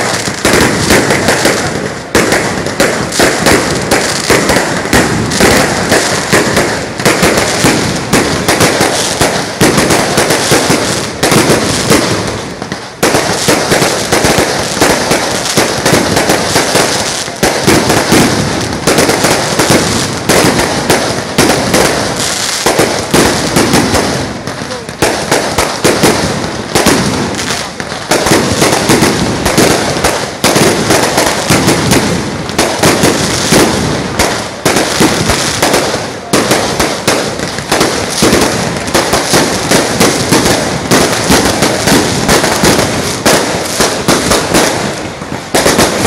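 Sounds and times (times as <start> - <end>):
firecrackers crackling: 0.0 - 46.0.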